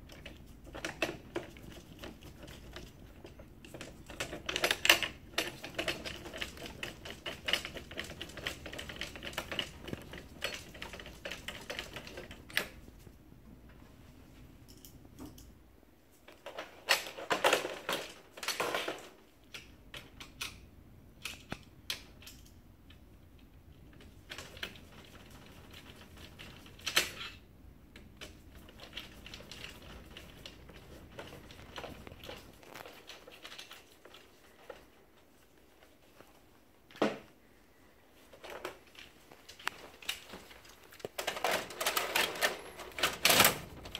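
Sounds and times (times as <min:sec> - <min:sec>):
plastic parts clicking and rattling: 0:00.0 - 0:13.0, 0:16.2 - 0:20.6, 0:21.2 - 0:37.3, 0:38.2 - 0:43.9.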